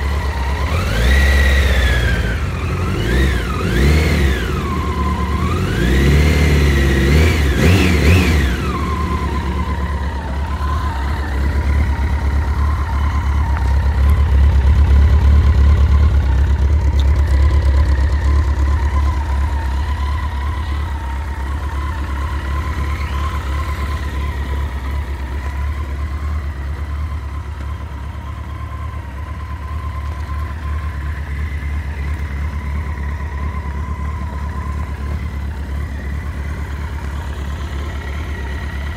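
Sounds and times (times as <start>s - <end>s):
engine whine: 0.0s - 38.9s
motorcycle engine revving and idling: 0.0s - 38.9s.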